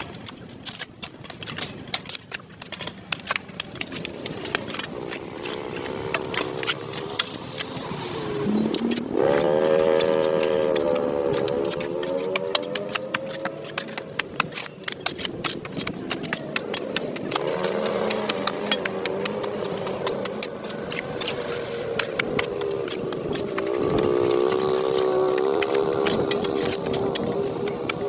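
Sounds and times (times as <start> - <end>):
rapid scraping clicks: 0.0 - 28.0.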